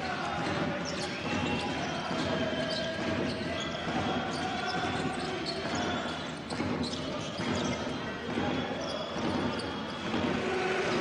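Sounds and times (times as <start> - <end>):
basketball bouncing on court: 0.0 - 11.0
crowd noise: 0.0 - 11.0.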